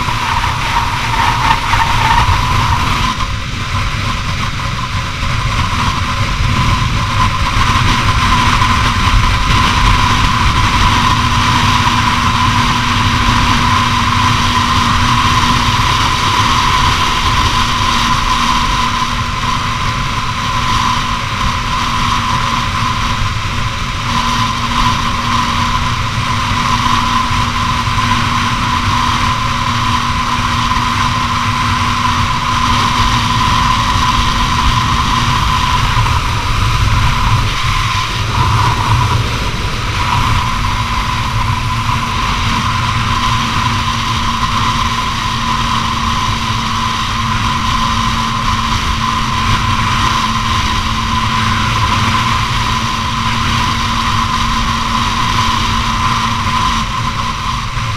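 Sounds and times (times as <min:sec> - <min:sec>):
motorcycle engine whine: 0:00.0 - 0:57.9
wind noise: 0:00.0 - 0:57.9.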